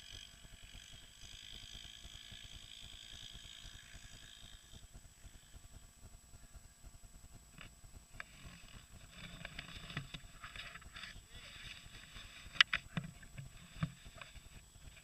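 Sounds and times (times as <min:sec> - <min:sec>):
faint atv engine: 0:00.0 - 0:15.0
thin high whine: 0:00.0 - 0:15.0.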